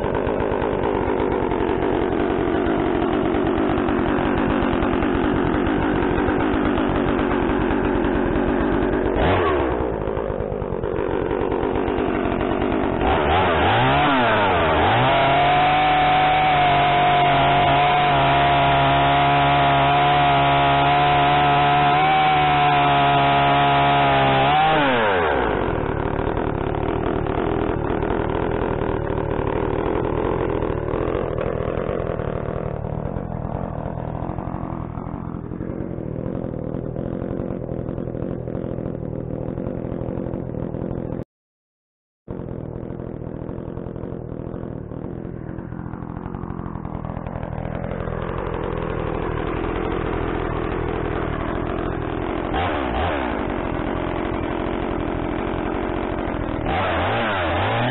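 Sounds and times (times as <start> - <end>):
chainsaw cutting timber: 0.0 - 41.3, 42.3 - 57.9
chainsaw idling and revving: 0.0 - 41.3, 42.3 - 57.9.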